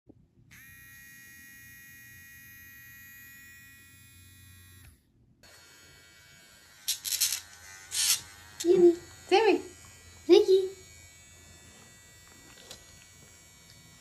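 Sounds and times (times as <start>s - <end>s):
electric nail grinder whining: 0.5s - 14.0s.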